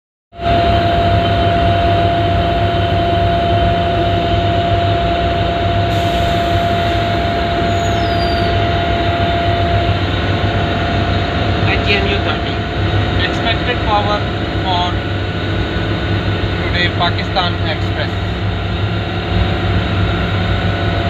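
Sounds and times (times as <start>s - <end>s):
constant high whine: 0.4s - 21.0s
locomotive idling hum: 0.4s - 21.0s.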